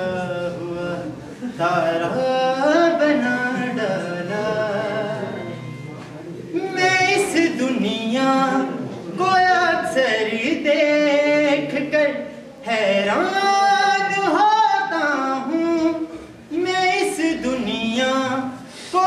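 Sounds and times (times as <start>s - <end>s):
man singing unaccompanied: 0.0s - 5.9s, 6.5s - 19.0s.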